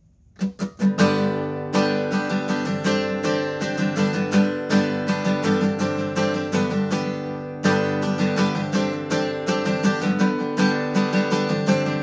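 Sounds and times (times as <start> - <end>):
acoustic guitar strumming chords: 0.1 - 12.0.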